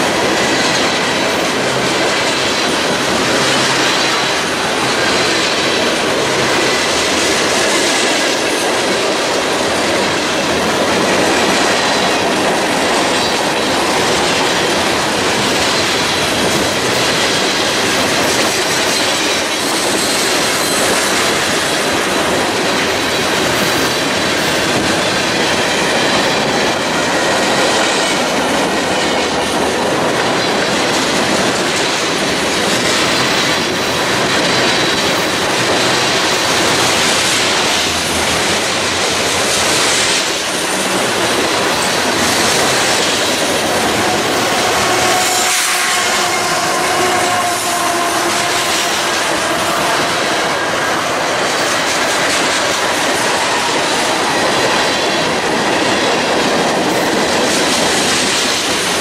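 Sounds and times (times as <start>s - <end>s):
clickety-clack over rail joints: 0.0s - 59.0s
freight train wheels on rails: 0.0s - 59.0s.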